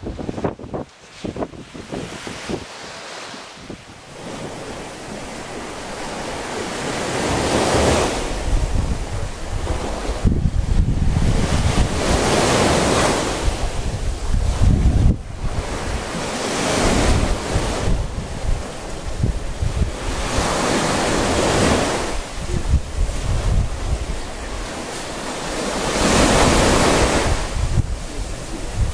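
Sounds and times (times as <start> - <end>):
small waves washing on shore: 0.0 - 28.9
wind buffeting microphone: 0.0 - 28.9.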